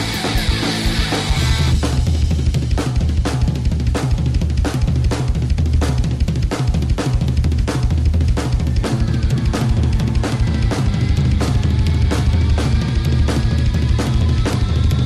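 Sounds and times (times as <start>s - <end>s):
band song with drum beat: 0.0s - 15.0s
heavy bass: 0.0s - 15.0s.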